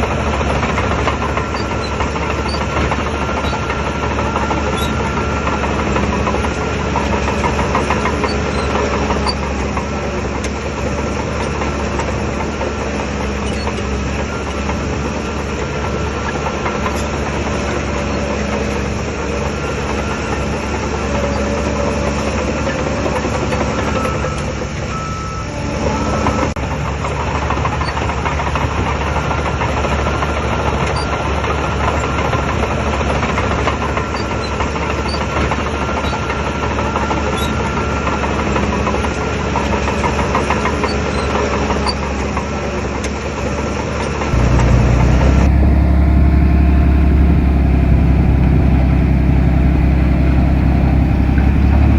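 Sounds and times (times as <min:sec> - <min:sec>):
bulldozer diesel engine running: 0:00.0 - 0:37.8, 0:44.2 - 0:51.9.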